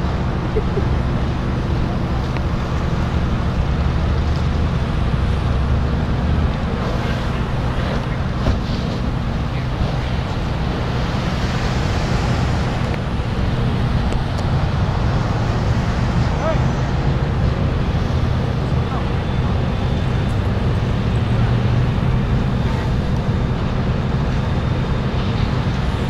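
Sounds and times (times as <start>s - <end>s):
fire engine pump running: 0.0s - 26.0s.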